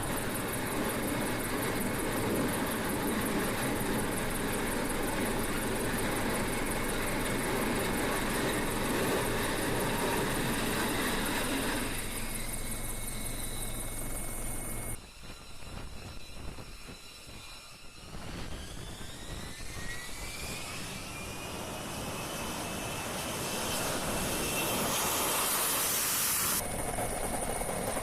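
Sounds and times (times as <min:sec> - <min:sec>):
jet engine rushing: 0:00.0 - 0:28.0.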